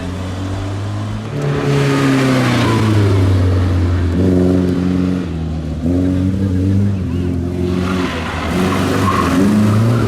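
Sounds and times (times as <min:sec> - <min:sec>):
rally car engine passing: 0:00.0 - 0:10.0.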